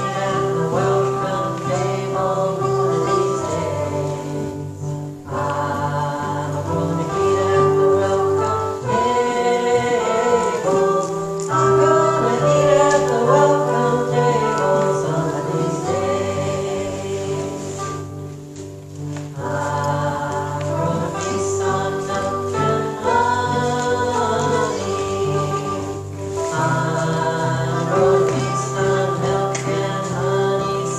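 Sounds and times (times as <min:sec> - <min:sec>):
voices singing a hymn: 0:00.0 - 0:18.4, 0:19.0 - 0:30.9.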